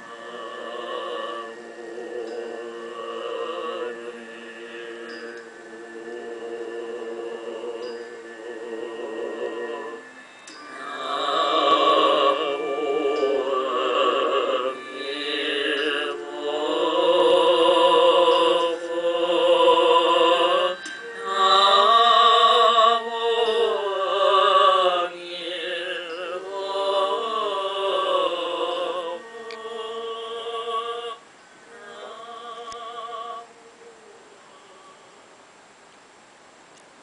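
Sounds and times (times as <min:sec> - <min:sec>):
person singing with vibrato: 0:00.0 - 0:35.7
music: 0:00.0 - 0:35.8.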